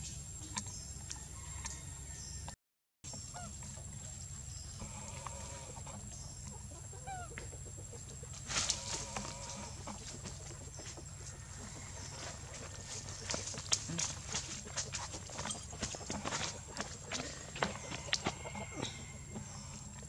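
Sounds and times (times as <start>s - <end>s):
steady low hum: 3.1s - 20.0s
clucking animal calls: 3.2s - 20.0s.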